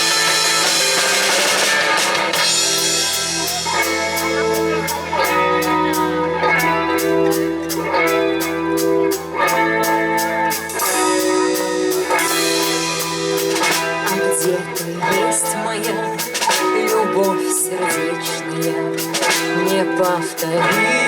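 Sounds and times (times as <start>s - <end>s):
hi-hat ticking: 0.0s - 21.0s
live band playing: 0.0s - 21.0s.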